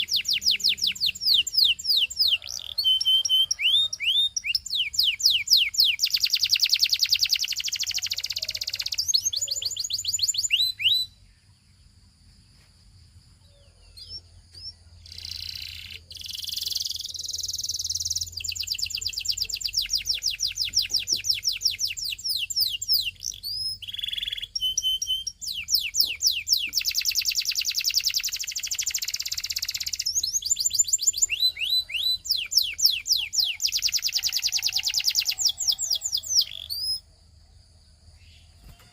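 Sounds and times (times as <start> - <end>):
canary chirps: 0.0 - 11.2, 13.5 - 37.1
canary singing trills: 0.0 - 11.7, 13.4 - 37.1, 38.1 - 38.9.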